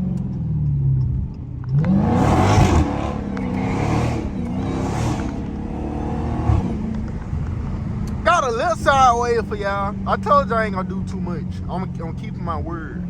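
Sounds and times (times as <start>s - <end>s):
car engine revving loud: 1.6s - 12.3s.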